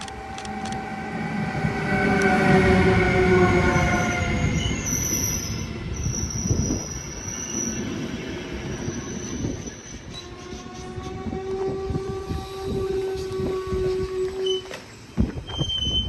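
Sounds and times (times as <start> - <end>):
train rumble: 0.0 - 16.0
train wheels squealing: 0.0 - 16.0.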